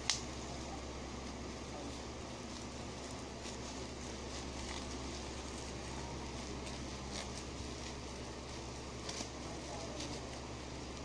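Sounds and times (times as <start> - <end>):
bubble wrap crinkling and clicking: 0.0 - 0.6, 1.2 - 11.0
background hum: 0.0 - 11.0.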